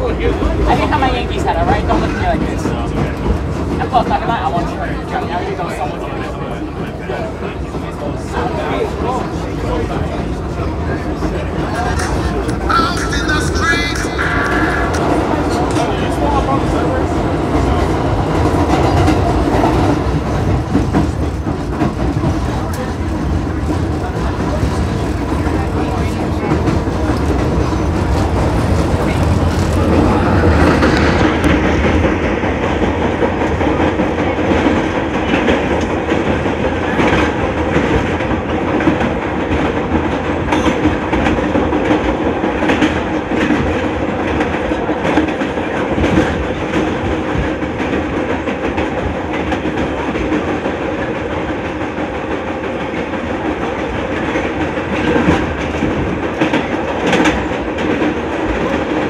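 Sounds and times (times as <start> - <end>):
rising train whine: 0.0 - 59.0
subway train rumble: 0.0 - 59.0.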